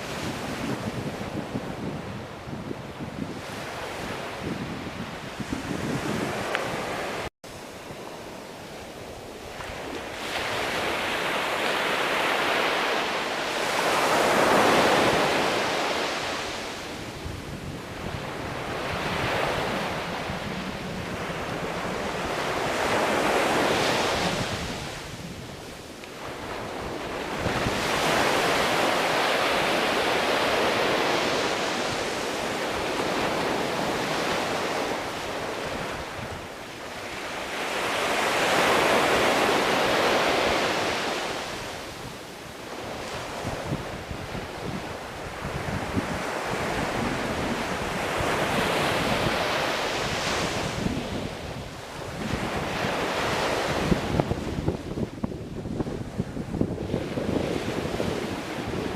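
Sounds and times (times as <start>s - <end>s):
ocean waves washing ashore: 0.0s - 58.9s.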